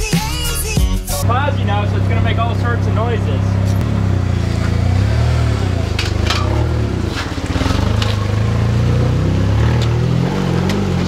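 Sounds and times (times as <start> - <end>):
pickup truck engine pulling away: 1.2 - 11.0.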